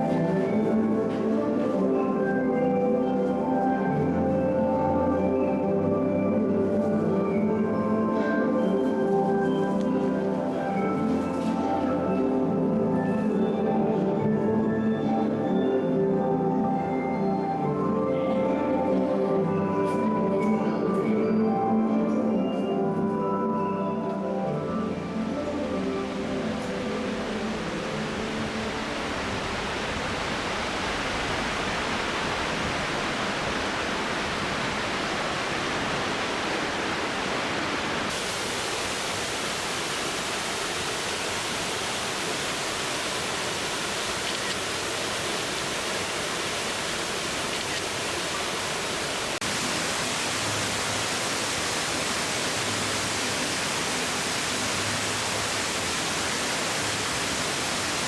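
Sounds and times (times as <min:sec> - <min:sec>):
waterfall rushing: 0:00.0 - 0:14.1, 0:24.3 - 0:58.0.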